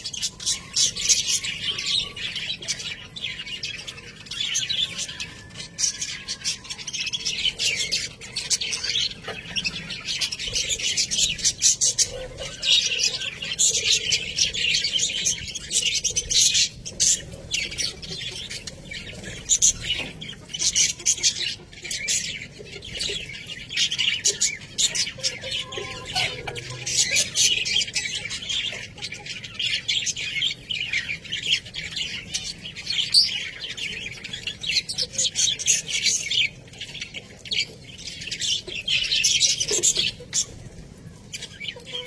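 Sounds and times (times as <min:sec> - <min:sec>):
budgerigars chattering and chirping: 0:00.0 - 0:42.0.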